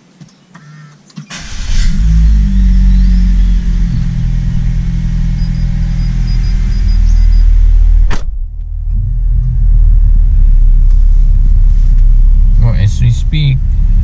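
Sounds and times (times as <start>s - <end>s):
car engine starting and idling: 1.2s - 14.0s.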